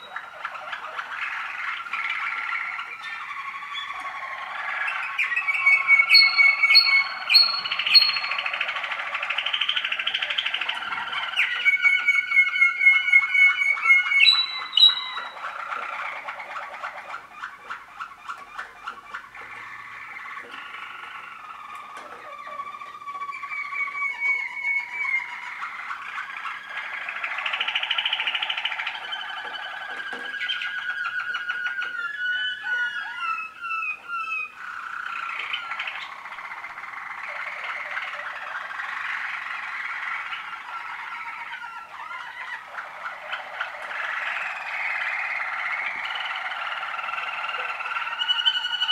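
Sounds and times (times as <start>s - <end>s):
canaries singing: 0.0s - 48.9s.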